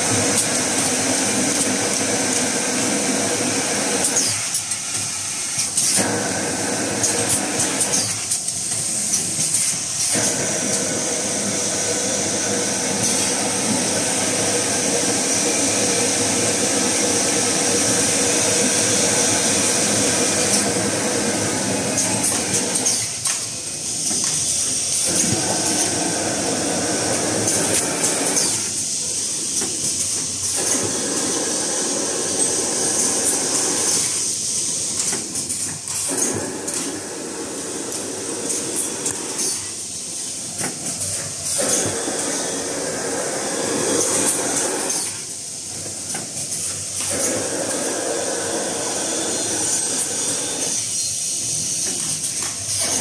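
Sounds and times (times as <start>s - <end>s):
packing machine clatter: 0.0s - 53.0s.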